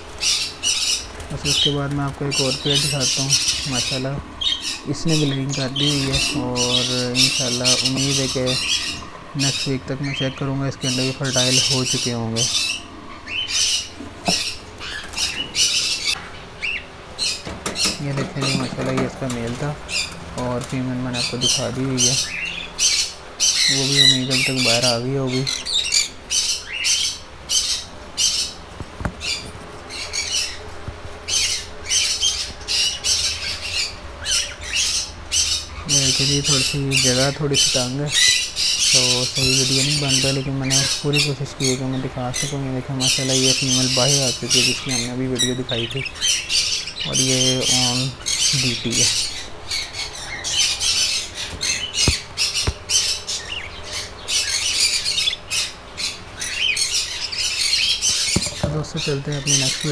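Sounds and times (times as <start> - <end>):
budgerigars squawking and chattering: 0.0 - 59.9.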